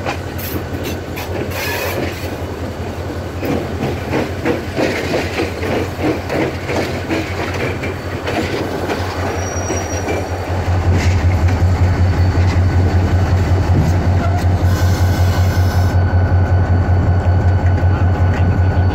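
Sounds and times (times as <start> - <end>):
train wheels clacking on rails: 0.0 - 18.9.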